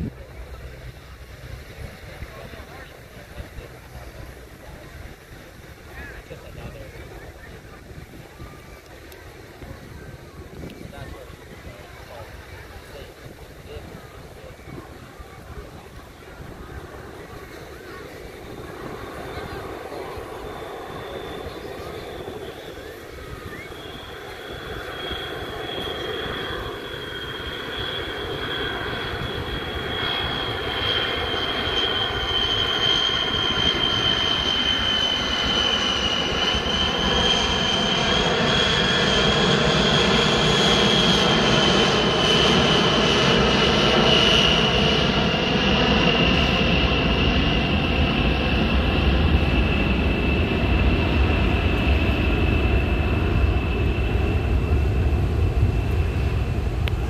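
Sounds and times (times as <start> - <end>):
jet aircraft flyover: 0.0 - 57.0.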